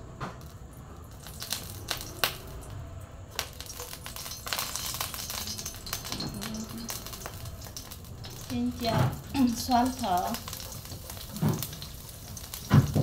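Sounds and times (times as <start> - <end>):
hot oil crackling and popping: 0.0 - 13.0.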